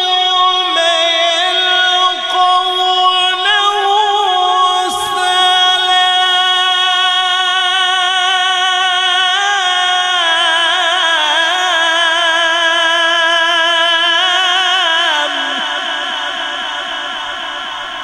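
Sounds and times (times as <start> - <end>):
man reciting melismatic chant: 0.0 - 18.0.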